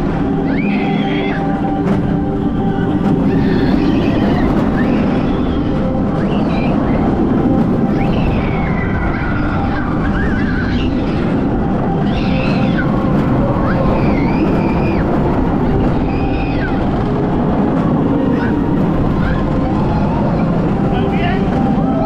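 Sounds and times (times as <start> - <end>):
roller coaster wind and wheel rumble: 0.0 - 22.0
wavering high sounds: 0.0 - 22.0.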